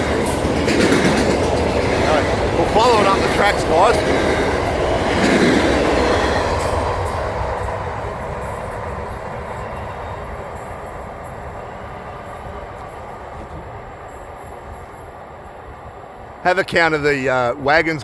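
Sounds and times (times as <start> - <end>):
freight train wagons rolling: 0.0 - 18.0.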